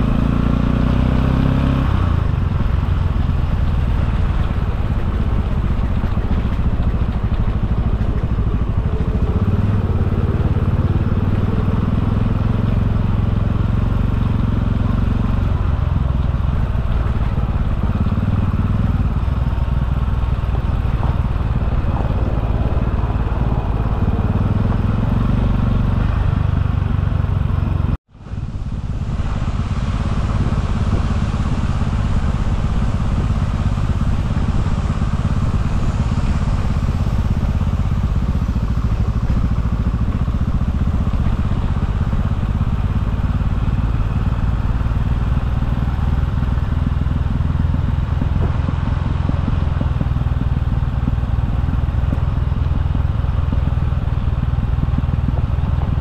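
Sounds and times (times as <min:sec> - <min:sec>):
road and wind rumble: 0:00.0 - 0:56.0
scooter engine running: 0:00.0 - 0:56.0.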